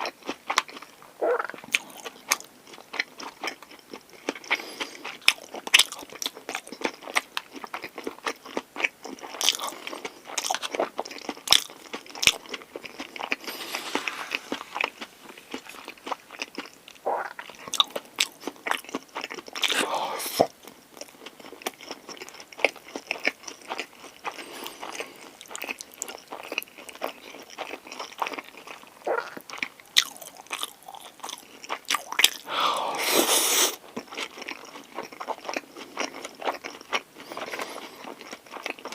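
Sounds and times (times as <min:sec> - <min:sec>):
close-miked chewing and biting: 0:00.0 - 0:38.9.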